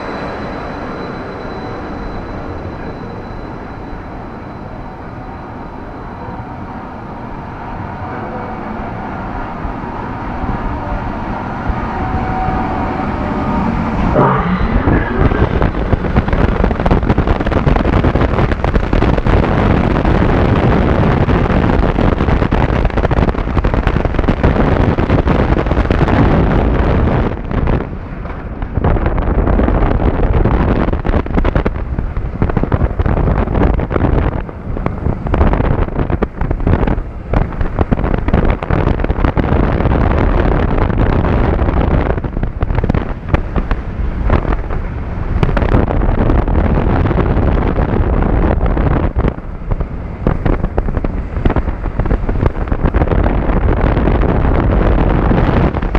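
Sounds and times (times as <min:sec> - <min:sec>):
roller coaster train rumble: 0:00.0 - 0:55.9
wind rushing over microphone: 0:00.0 - 0:55.9.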